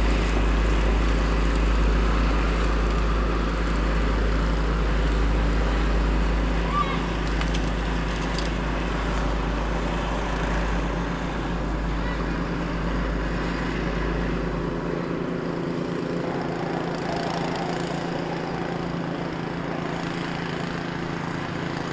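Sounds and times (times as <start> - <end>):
snowblower engine running: 0.0 - 21.9
truck driving past: 0.0 - 21.9.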